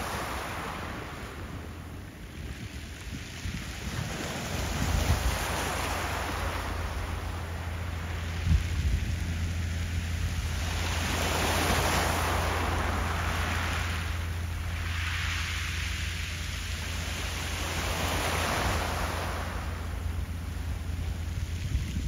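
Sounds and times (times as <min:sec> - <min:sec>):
steady low rumble: 0:00.0 - 0:22.0
wind gusting across microphone: 0:00.0 - 0:22.0.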